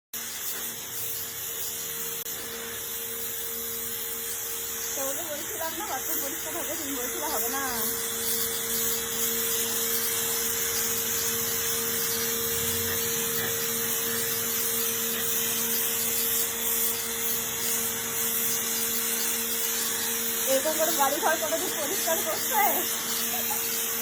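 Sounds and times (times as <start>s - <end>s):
pressure washer motor hum: 0.2s - 24.0s
water jet hissing: 0.2s - 24.0s.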